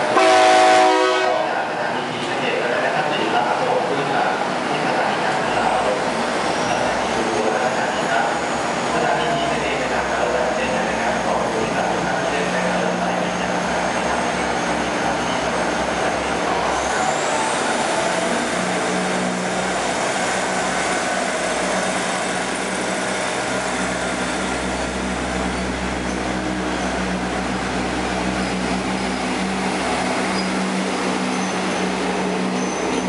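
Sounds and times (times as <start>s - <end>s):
diesel train engine hum: 0.0s - 33.0s
wheels rumbling on rails: 4.9s - 33.0s.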